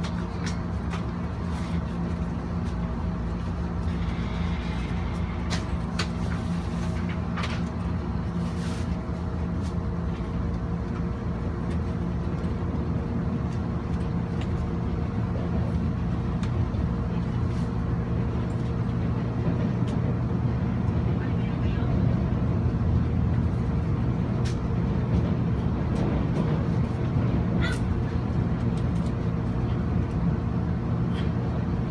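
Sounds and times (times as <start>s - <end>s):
train cabin rumble and hum: 0.0s - 31.9s.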